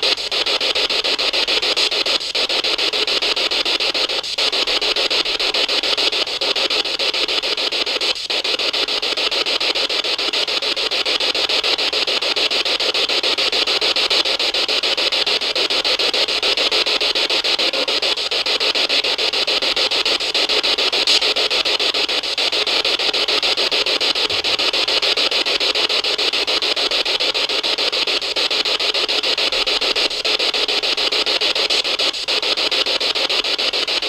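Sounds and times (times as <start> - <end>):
chopped radio static hiss: 0.0 - 34.0.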